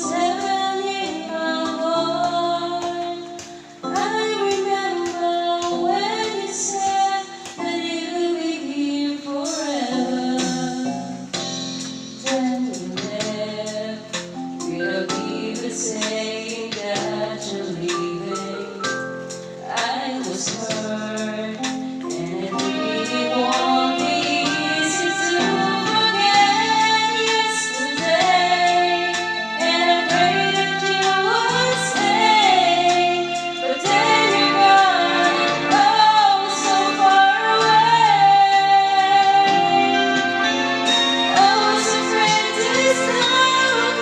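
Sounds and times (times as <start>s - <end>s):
woman singing a ballad: 0.0s - 11.5s, 12.2s - 40.5s, 41.2s - 44.0s
backing track: 0.0s - 44.0s.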